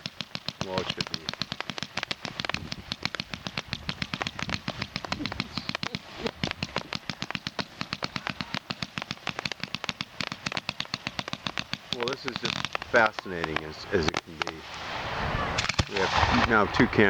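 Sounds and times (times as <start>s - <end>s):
fireworks popping and cracking: 0.0s - 17.0s.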